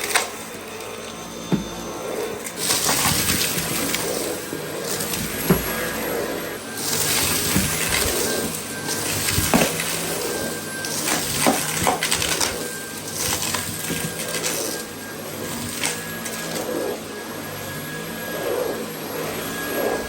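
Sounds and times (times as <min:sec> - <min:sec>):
debris rattling through vacuum: 0:00.0 - 0:16.7
cordless vacuum running: 0:00.0 - 0:20.0.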